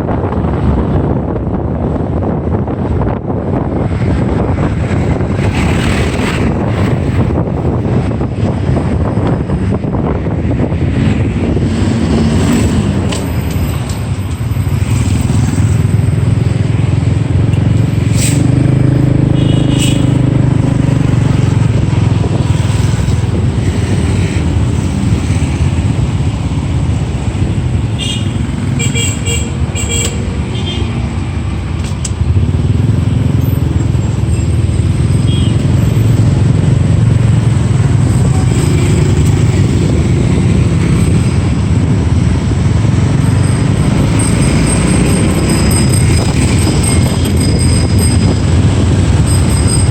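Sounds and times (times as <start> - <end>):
wind and road noise: 0.0 - 49.9.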